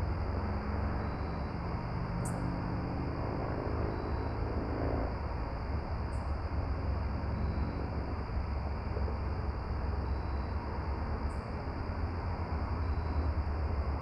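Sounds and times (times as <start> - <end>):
faint droning hum: 0.0 - 14.0
low rumbling background noise: 0.0 - 14.0.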